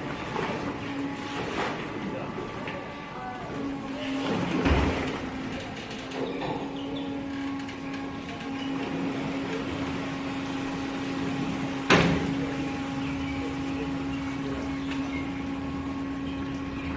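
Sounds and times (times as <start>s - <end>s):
motor humming: 0.0s - 16.9s.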